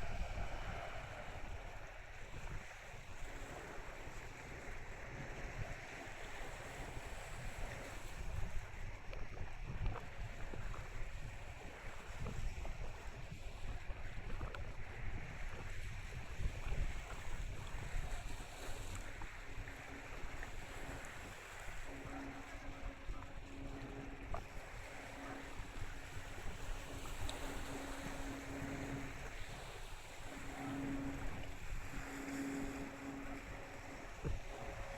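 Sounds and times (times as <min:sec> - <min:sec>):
steady low hum: 0:00.0 - 0:34.9
water: 0:00.0 - 0:34.9
wind buffeting microphone: 0:00.0 - 0:34.9.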